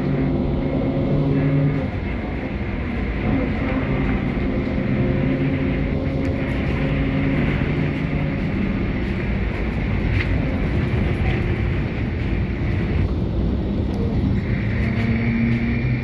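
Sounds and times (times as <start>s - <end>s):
steady whining tones: 0.0s - 16.0s
trolleybus rumble and road noise: 0.0s - 16.0s.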